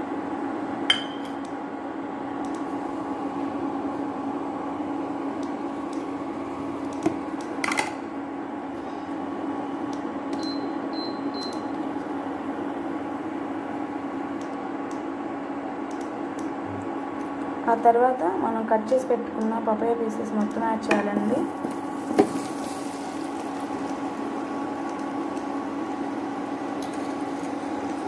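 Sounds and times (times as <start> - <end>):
cooling fan humming: 0.0 - 28.0.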